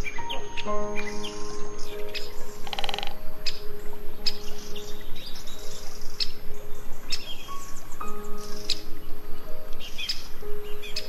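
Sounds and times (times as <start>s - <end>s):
small birds chirping: 0.0s - 11.0s
soft background music: 0.0s - 11.0s.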